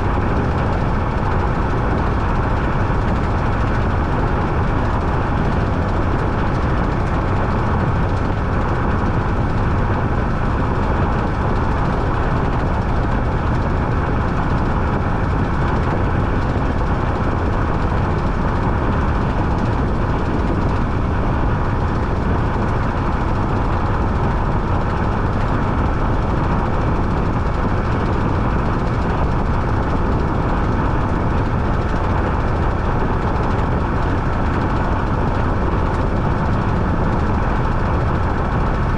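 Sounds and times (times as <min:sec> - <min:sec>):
washing machine churning: 0:00.0 - 0:38.9.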